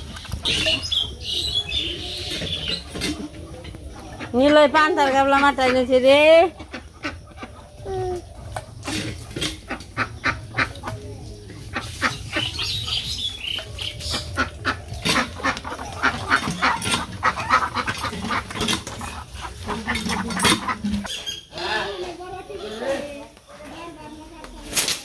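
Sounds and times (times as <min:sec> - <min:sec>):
ducks quacking: 0:00.0 - 0:23.7.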